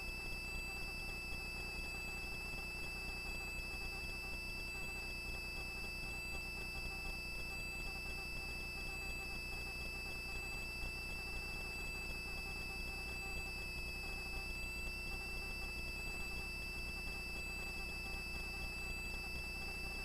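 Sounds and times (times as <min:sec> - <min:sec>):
thin high-pitched whine: 0:00.0 - 0:20.0.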